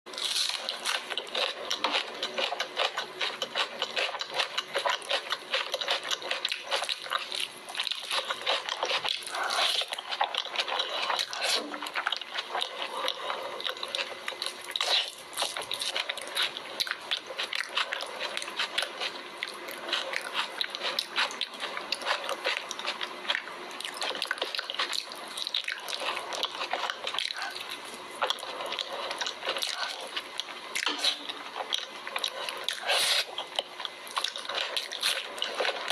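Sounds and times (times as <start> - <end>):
wet chewing clicks: 0.6 - 35.9.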